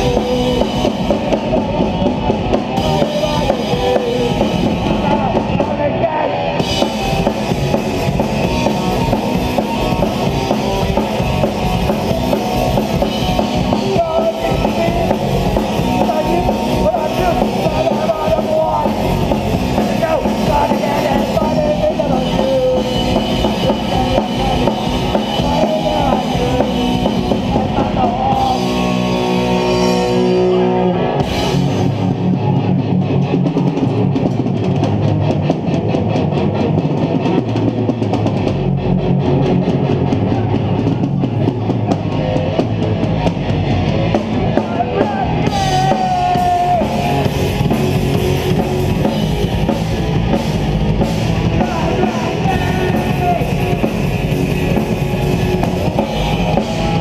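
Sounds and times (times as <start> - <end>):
punk band playing loud: 0.0 - 57.0.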